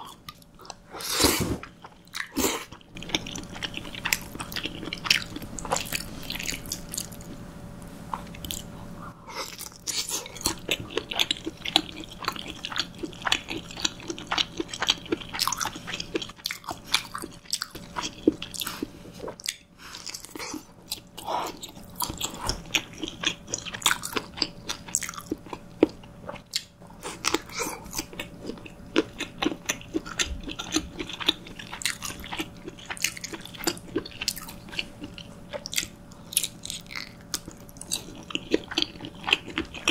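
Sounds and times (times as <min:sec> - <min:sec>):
faint steady hum: 0:00.0 - 0:39.9
chewing with wet mouth clicks: 0:01.8 - 0:07.2, 0:09.5 - 0:39.9.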